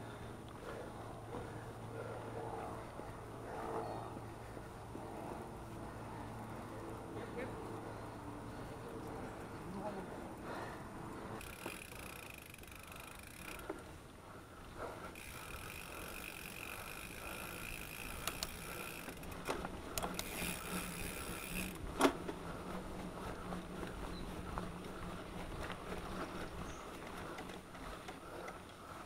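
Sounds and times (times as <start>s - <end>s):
bike rattling over bumps: 0.0s - 29.0s
bike wheels whirring: 0.0s - 29.0s.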